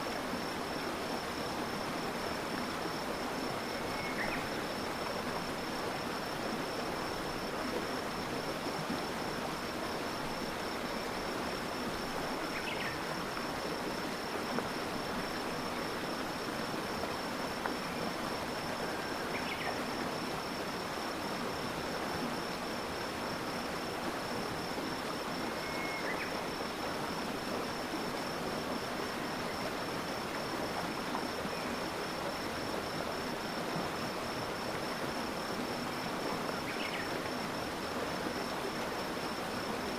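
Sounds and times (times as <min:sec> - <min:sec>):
stream water flowing: 0:00.0 - 0:39.9
cricket trilling: 0:00.4 - 0:39.9.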